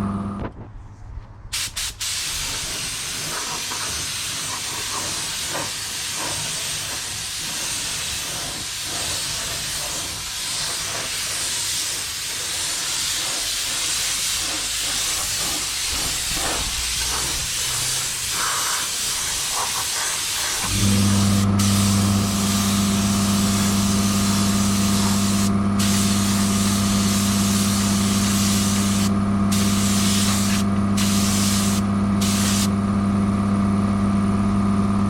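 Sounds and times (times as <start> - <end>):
hiss of paint spraying: 1.6 - 20.8, 21.6 - 32.7.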